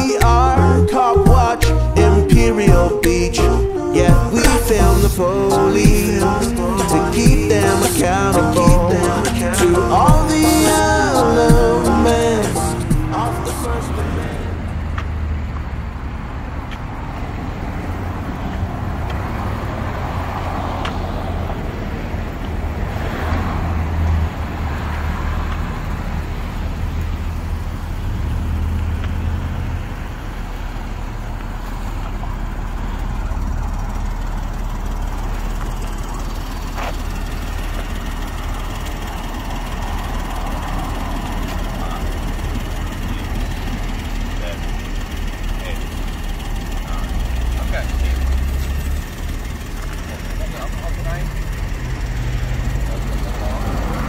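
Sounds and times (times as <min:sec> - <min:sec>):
low engine hum: 0:00.0 - 0:54.0
road traffic noise: 0:00.0 - 0:54.0.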